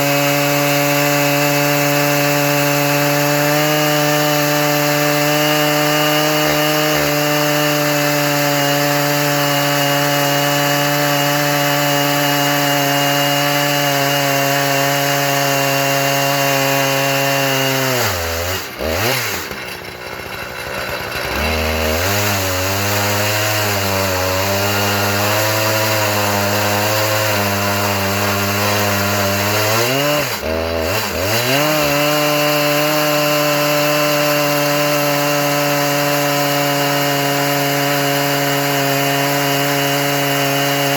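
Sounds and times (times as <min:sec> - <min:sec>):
chainsaw ripping a log: 0:00.0 - 0:40.9.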